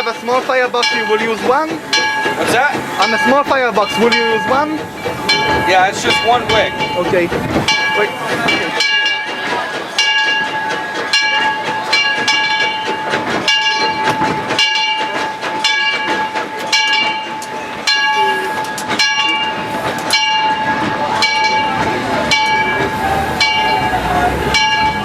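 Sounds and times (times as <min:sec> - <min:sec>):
running train noise: 0:00.0 - 0:25.0
steam locomotive bell ringing: 0:00.0 - 0:25.0.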